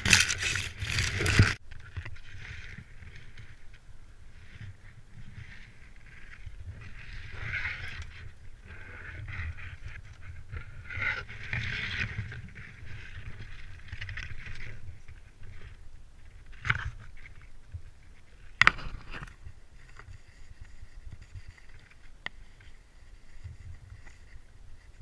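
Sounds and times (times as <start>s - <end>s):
branches and clothing rustling: 0.0s - 25.0s.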